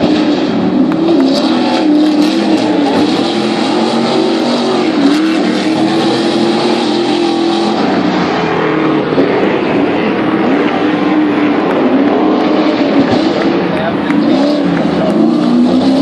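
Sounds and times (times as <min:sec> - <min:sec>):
racing truck engines revving: 0:00.0 - 0:16.0.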